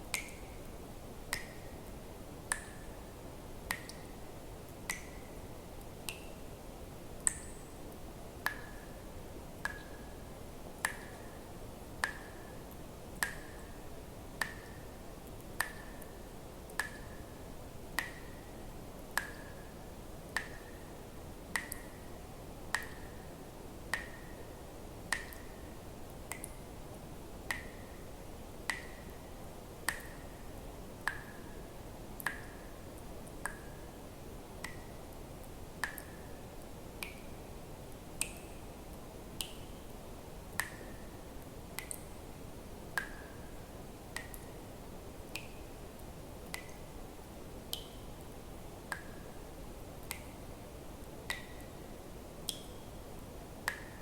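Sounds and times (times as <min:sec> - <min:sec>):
steady low hiss: 0:00.0 - 0:54.0.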